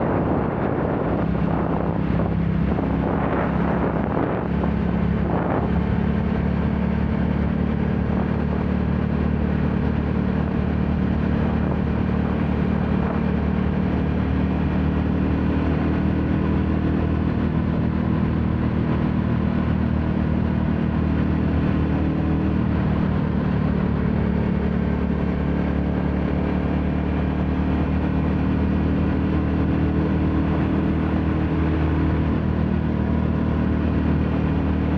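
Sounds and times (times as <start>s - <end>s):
motorcycle engine while riding: 0.0s - 34.9s.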